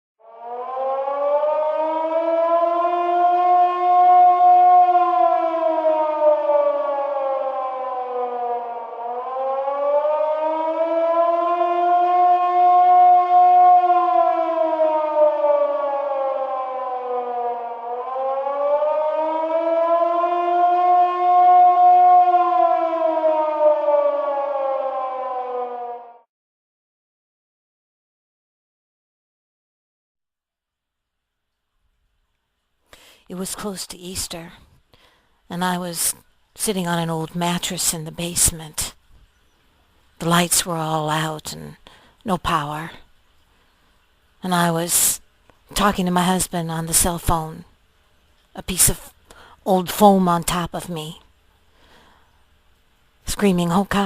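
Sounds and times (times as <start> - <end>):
tornado warning siren wailing: 0.2 - 26.3, 33.0 - 54.0.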